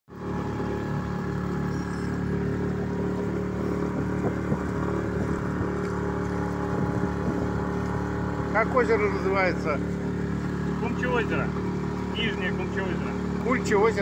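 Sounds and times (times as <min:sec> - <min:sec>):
motorboat engine droning: 0:00.1 - 0:14.0.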